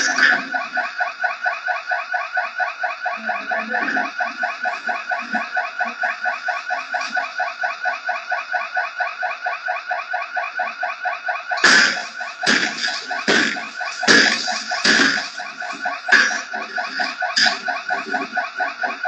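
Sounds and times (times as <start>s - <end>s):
burglar alarm warbling: 0.0s - 19.0s.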